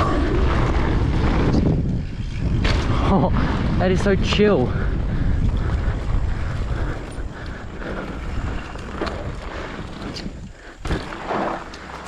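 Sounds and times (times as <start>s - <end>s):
bike rumbling and rattling on trail: 0.0s - 12.0s
wind noise on microphone: 0.0s - 12.0s.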